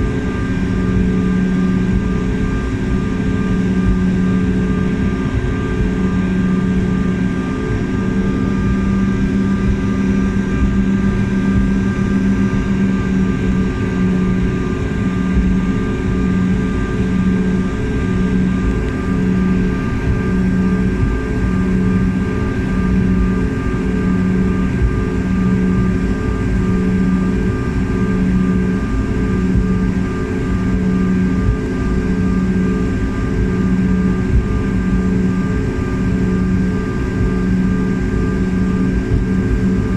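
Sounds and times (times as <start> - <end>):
airliner cabin engine drone: 0.0 - 39.9
throbbing low hum: 0.0 - 39.9.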